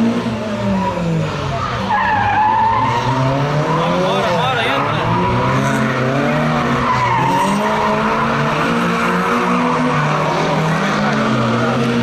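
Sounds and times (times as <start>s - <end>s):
car engines revving: 0.0s - 12.0s
tyres squealing and skidding: 0.3s - 12.0s.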